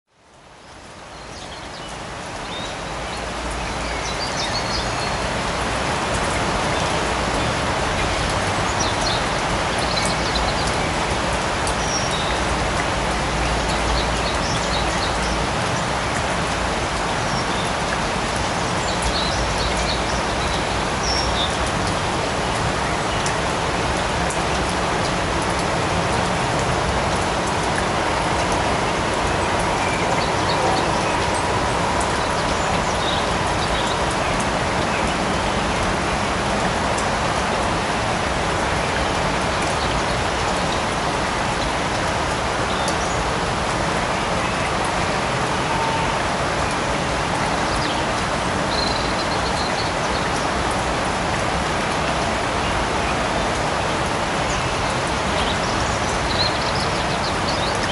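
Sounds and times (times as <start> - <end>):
light rain falling: 0.1 - 57.9.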